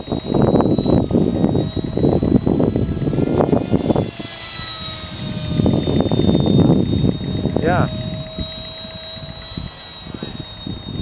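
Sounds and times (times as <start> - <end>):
electric ducted fan whining: 0.0 - 11.0
wind rumble on microphone: 0.0 - 11.0.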